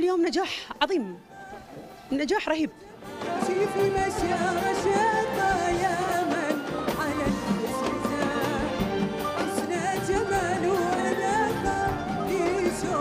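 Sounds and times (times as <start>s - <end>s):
woman singing: 0.0s - 13.0s
orchestral accompaniment: 1.2s - 13.0s.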